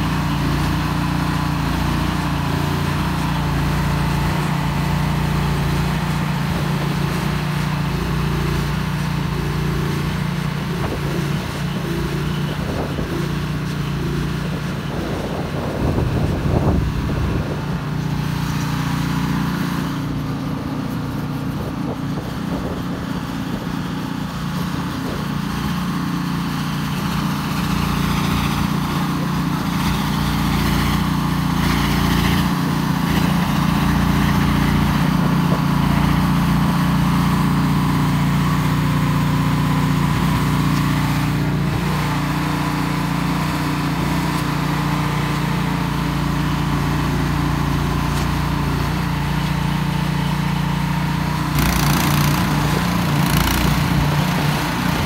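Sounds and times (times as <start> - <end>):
snow blower engine running: 0.0 - 55.0.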